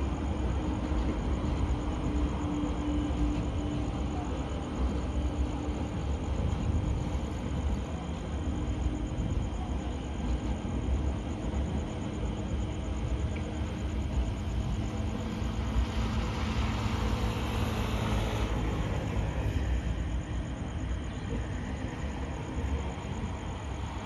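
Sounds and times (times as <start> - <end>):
distant train rolling rumble: 0.0 - 24.0
faint train hum: 0.0 - 24.0.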